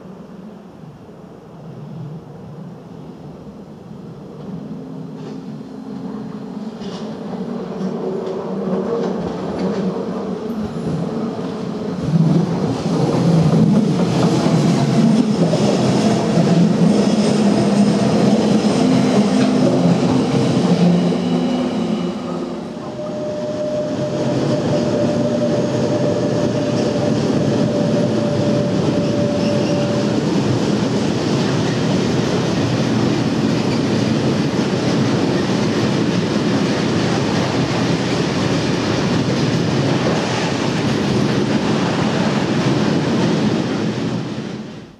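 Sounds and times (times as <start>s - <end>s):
electric train passing: 3.5s - 44.9s
freight train rolling over rails: 3.8s - 44.9s.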